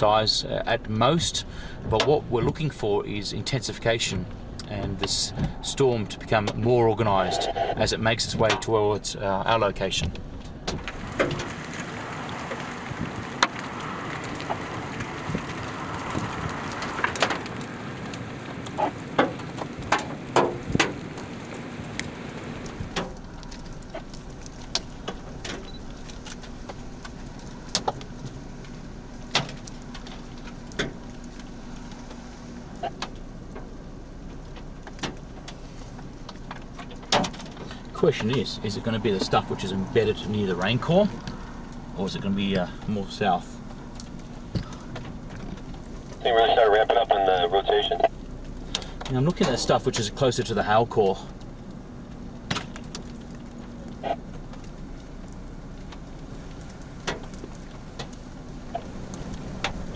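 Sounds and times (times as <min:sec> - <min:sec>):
rain hiss: 0:00.0 - 0:08.2, 0:10.8 - 0:59.9
hailstones hitting a vehicle: 0:09.4 - 0:59.9.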